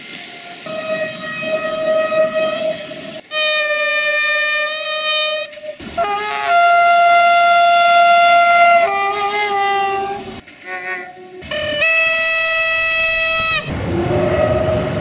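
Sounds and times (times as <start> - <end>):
train horn blasts: 0.3 - 15.0.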